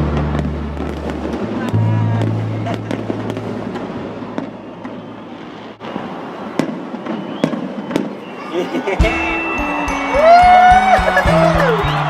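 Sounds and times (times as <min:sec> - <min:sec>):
distant fireworks crackling: 0:00.0 - 0:10.0.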